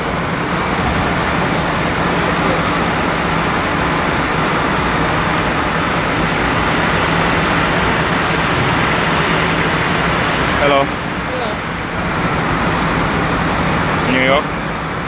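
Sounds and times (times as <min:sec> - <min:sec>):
bus engines idling: 0:00.0 - 0:15.0.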